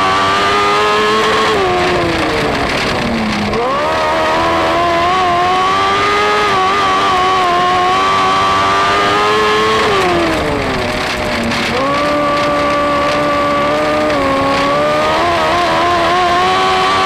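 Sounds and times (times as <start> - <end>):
racing car engine: 0.0 - 17.0.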